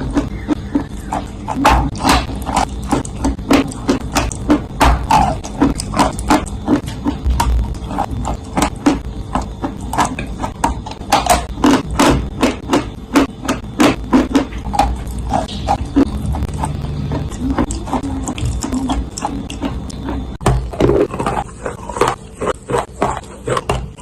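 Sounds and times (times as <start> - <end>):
crunching of dry clay chewing: 0.0 - 24.0.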